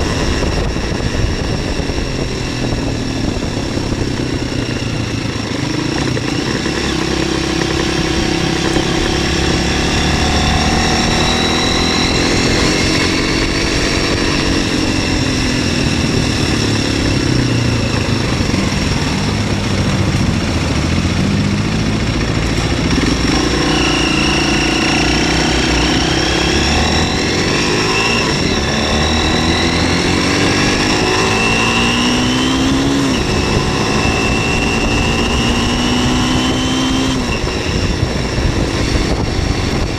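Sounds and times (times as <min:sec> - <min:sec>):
motorcycle engine revving: 0:00.0 - 0:39.9
wind on microphone: 0:00.0 - 0:39.9.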